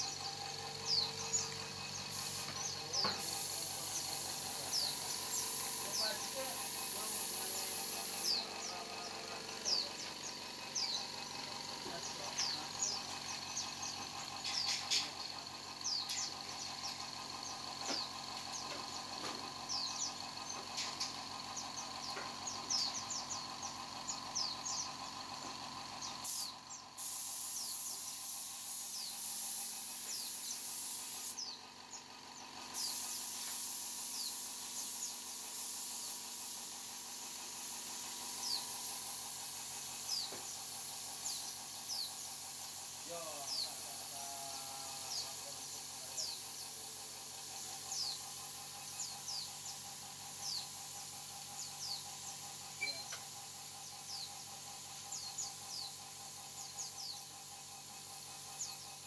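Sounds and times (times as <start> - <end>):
paint spray gun hissing: 0.0 - 59.0.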